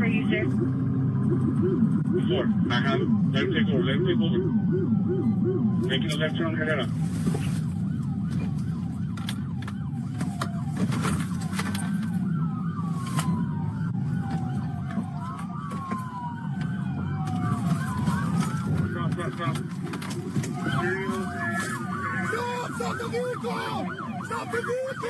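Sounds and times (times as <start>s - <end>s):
police sirens wailing: 0.0s - 25.0s
vehicles rumbling: 0.0s - 25.0s.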